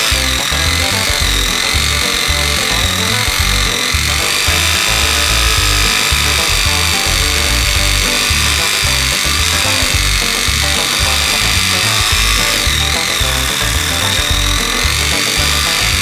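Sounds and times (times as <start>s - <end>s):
background music with steady beat: 0.0s - 16.0s
scroll saw cutting wood: 0.0s - 16.0s.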